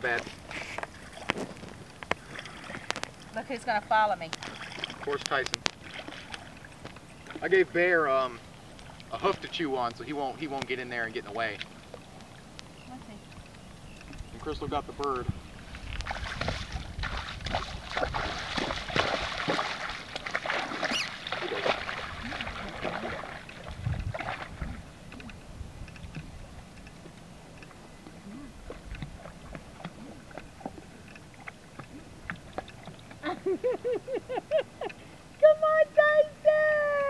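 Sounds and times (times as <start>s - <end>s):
water sloshing and splashing: 0.0s - 35.5s.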